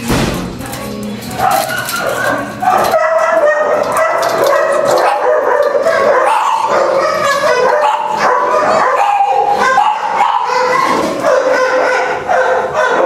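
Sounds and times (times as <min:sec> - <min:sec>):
many dogs barking and yipping: 0:01.4 - 0:13.0.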